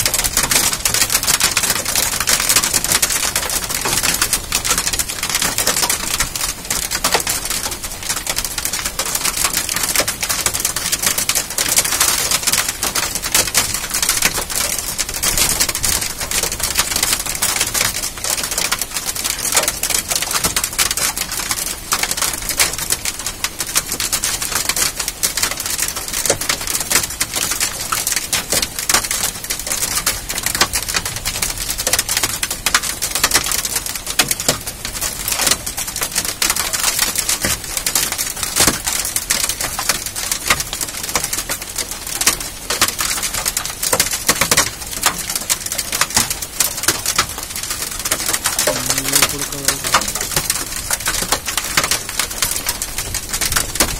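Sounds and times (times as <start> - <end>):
hailstones pelting down: 0.0 - 53.9.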